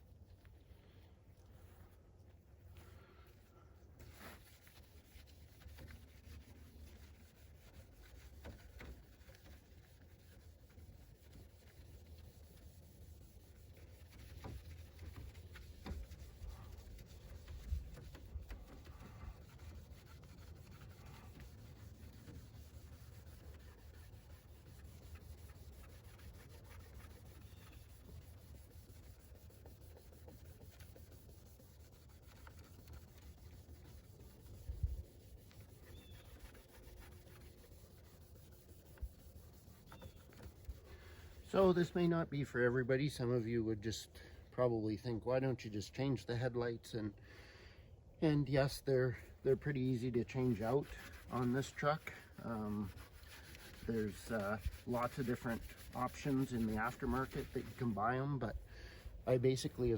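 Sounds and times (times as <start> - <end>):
cloth rubbing on plastic lens: 1.5 - 43.2, 48.6 - 59.9.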